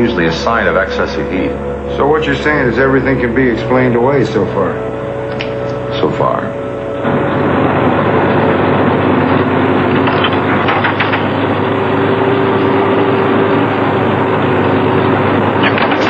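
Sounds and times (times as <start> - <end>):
cable car mechanical rumble: 0.0 - 16.0
faint steady whine: 0.0 - 16.0.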